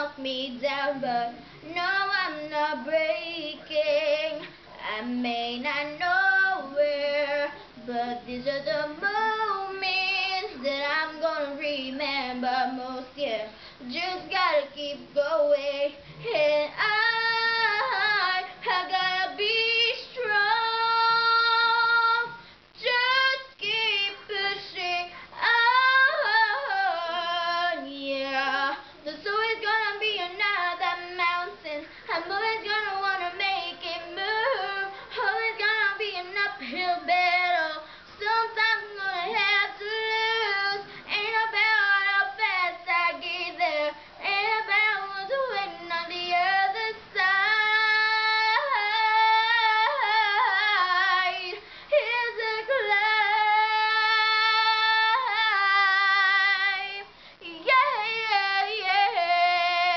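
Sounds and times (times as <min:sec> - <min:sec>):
girl singing a pop ballad: 0:00.0 - 0:59.9.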